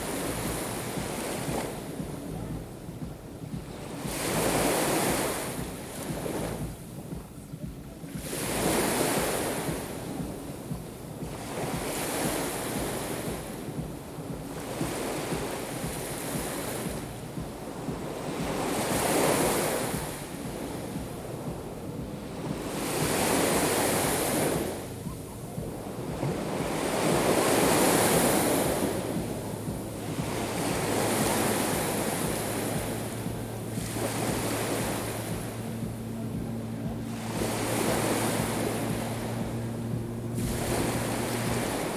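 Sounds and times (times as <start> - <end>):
sea waves breaking on shore: 0.0 - 41.9
wind buffeting microphone: 0.0 - 41.9.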